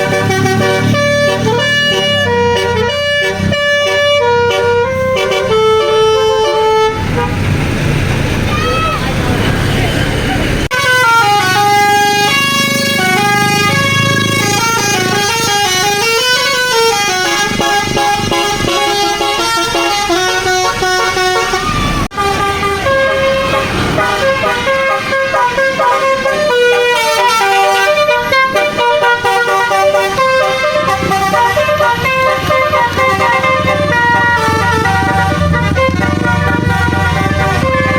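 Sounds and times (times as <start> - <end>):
multi-tone musical air horn: 0.0 - 7.4, 10.7 - 37.9.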